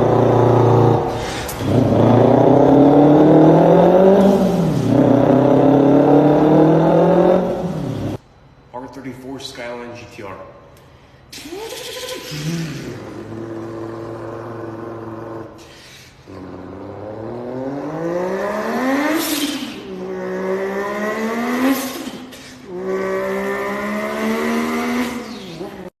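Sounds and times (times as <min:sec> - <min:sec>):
man imitating car engine: 0:00.0 - 0:07.8, 0:11.4 - 0:21.0, 0:21.8 - 0:25.9.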